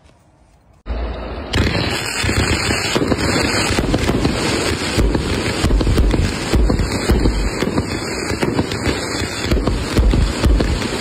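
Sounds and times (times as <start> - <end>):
fireworks cake firing rapid shots: 1.5 - 11.0.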